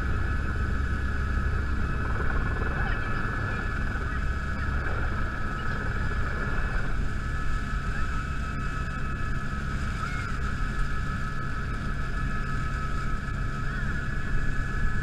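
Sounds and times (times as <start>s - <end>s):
engine and rotor rumble: 0.0s - 15.0s
helicopter high whine: 0.0s - 15.0s.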